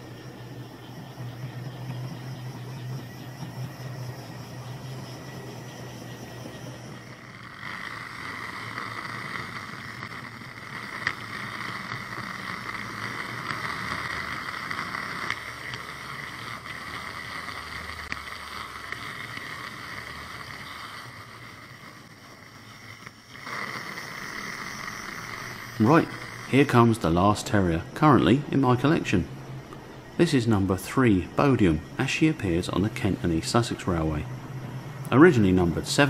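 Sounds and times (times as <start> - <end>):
model train motor whirring: 0.0 - 36.0.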